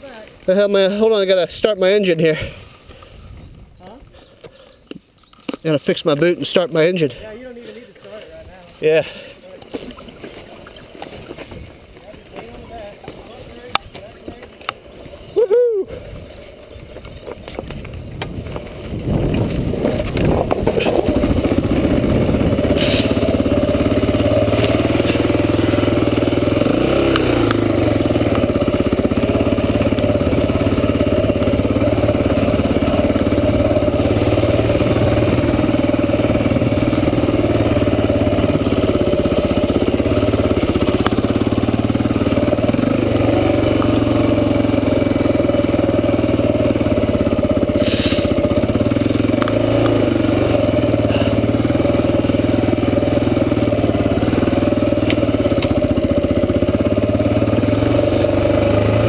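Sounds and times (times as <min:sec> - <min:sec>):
dirt bike engine running: 0:00.0 - 0:03.2, 0:03.8 - 0:59.0.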